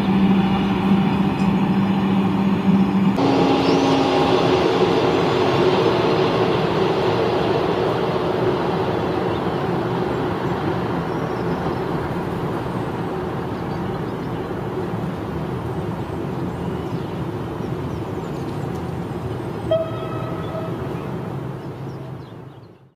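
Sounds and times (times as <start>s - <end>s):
train wheels rumbling on rail: 0.0s - 22.6s.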